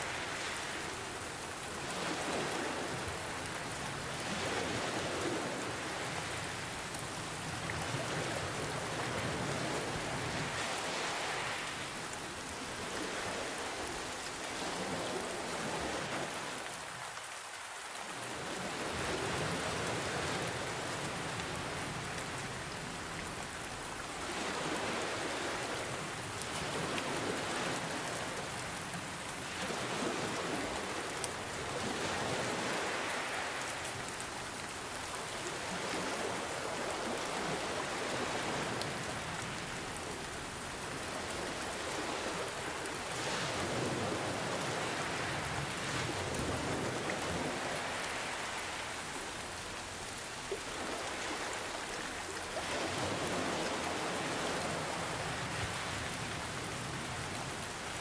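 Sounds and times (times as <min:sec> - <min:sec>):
ocean waves: 0:00.0 - 0:58.0
steady rain falling: 0:00.0 - 0:58.0.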